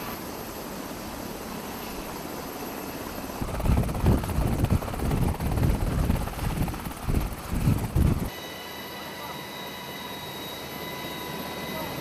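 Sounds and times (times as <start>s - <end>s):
helicopter rotor running: 2.0s - 12.0s.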